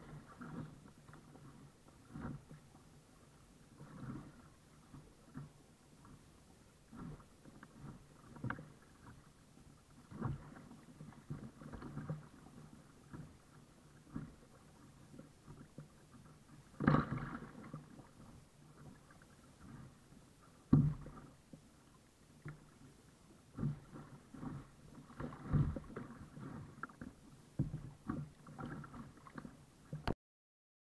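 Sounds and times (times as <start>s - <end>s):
water splashing against kayak hull: 0.0s - 30.2s.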